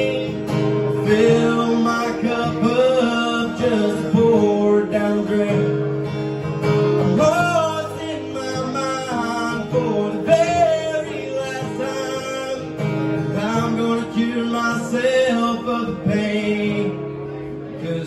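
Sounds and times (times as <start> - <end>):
man singing long notes: 0.0 - 5.7, 7.0 - 18.0
acoustic guitar: 0.0 - 18.0.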